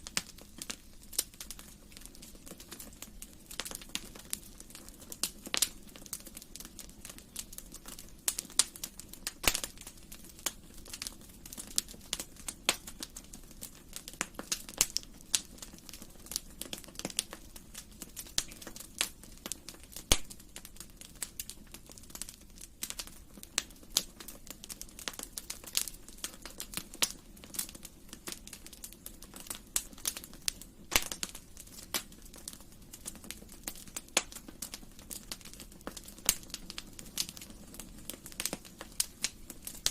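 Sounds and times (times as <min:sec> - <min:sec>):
fire popping and snapping: 0:00.0 - 0:39.9
low rumble of burning: 0:00.0 - 0:39.9.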